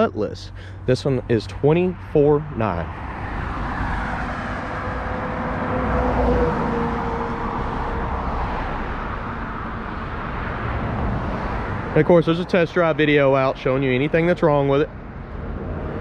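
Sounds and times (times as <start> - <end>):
outdoor background noise: 0.0 - 16.0
vehicle passing by: 0.6 - 16.0.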